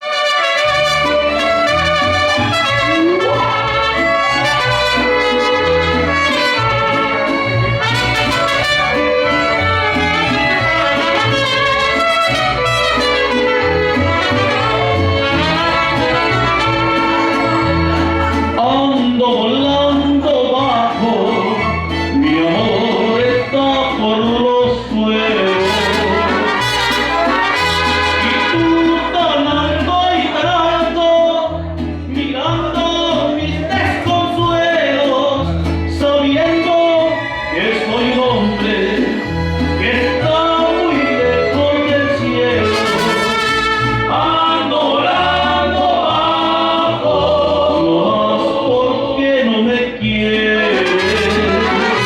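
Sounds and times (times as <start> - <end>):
mariachi band playing: 0.0 - 52.0.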